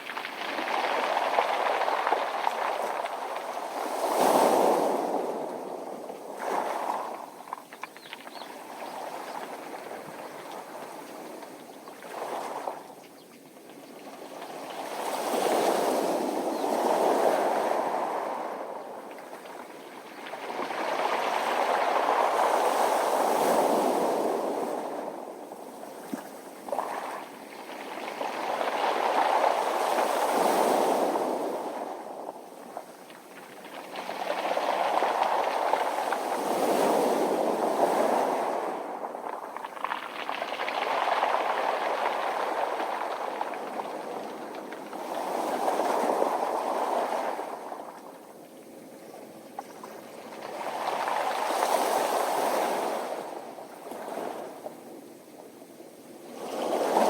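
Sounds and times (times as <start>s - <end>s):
pebbles rattling in surf: 0.0s - 13.0s, 13.6s - 48.4s, 49.3s - 55.0s
waves washing up a pebble beach: 0.0s - 13.0s, 13.8s - 54.9s, 56.2s - 57.0s.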